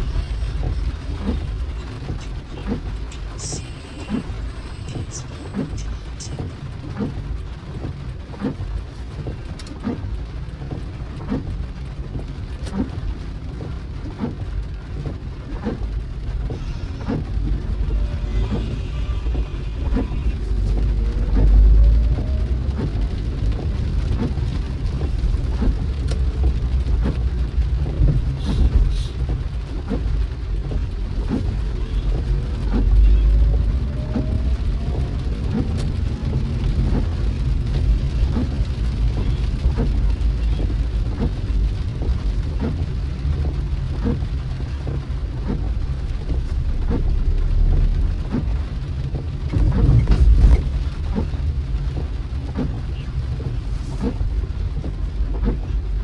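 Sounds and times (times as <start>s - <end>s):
car low rumble: 0.0s - 56.0s
raindrop taps: 0.0s - 56.0s.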